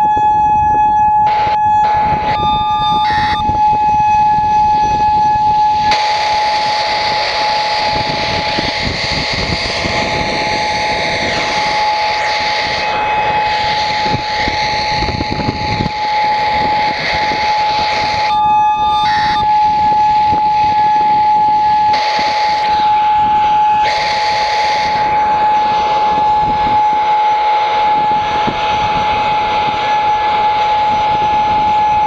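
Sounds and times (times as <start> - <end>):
warning siren steady tone: 0.0 - 32.0
wind noise on microphone: 0.0 - 32.0.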